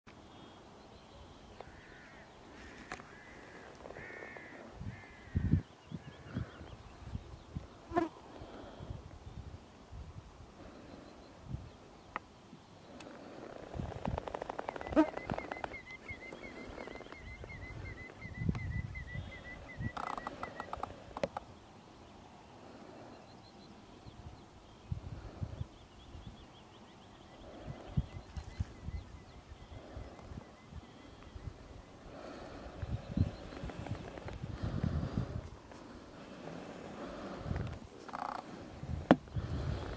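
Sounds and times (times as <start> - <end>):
terns calling: 0.2 - 8.8, 12.0 - 39.9.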